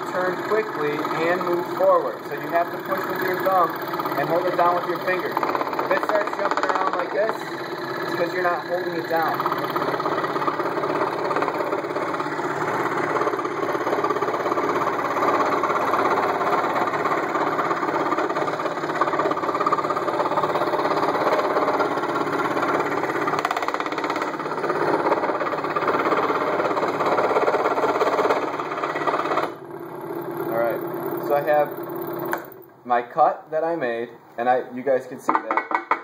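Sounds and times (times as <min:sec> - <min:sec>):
scroll saw cutting wood: 0:00.0 - 0:29.6.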